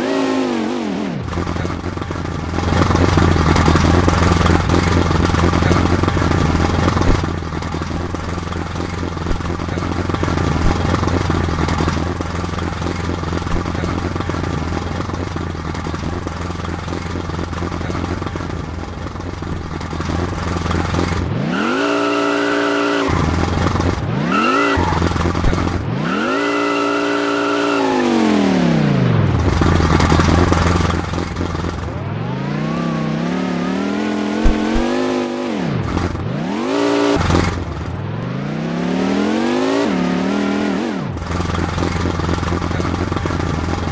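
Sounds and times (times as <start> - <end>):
engine idling and revving: 0.0 - 43.9.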